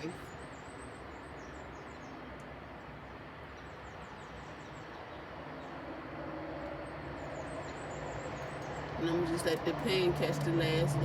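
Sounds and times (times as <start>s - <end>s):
small birds chirping: 0.0s - 5.9s, 6.7s - 11.0s
outdoor background hum: 0.0s - 11.0s.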